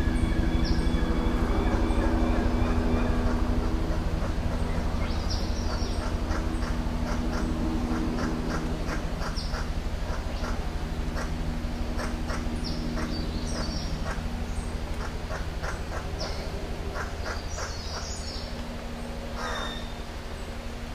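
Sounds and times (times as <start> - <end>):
bird pulsing buzz song: 0.0 - 20.9.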